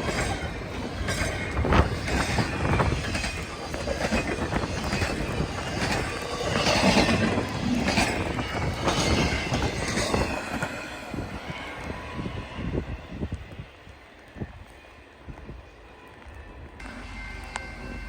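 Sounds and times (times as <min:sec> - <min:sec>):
railroad cars rolling past: 0:00.0 - 0:18.0.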